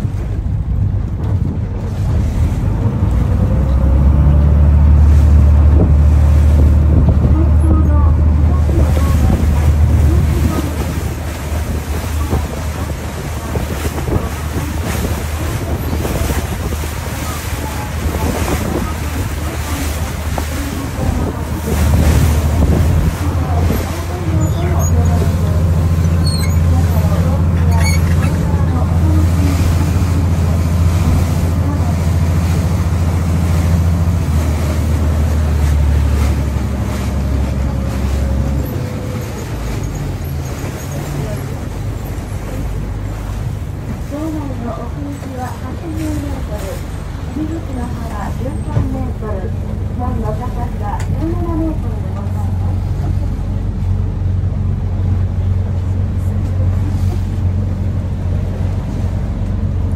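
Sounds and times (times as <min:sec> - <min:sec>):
boat engine droning: 0:00.0 - 0:59.9
water splashing along hull: 0:00.0 - 0:59.9.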